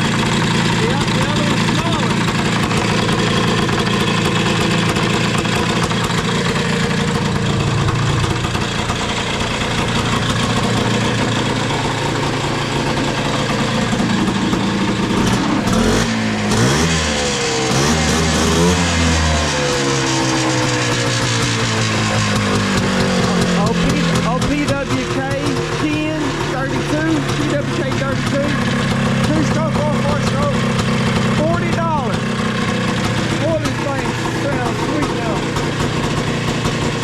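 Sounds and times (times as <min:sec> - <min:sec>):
engine idling and revving: 0:00.0 - 0:37.0.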